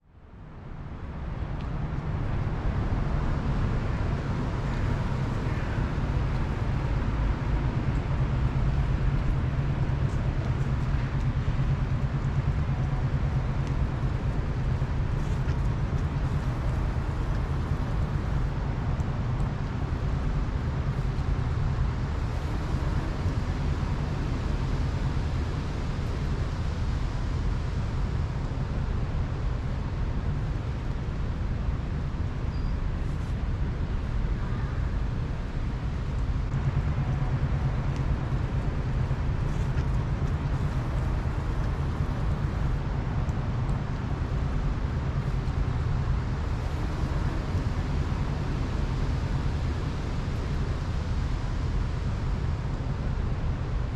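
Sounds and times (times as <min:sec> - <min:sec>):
distant traffic hum: 0:00.3 - 0:53.9.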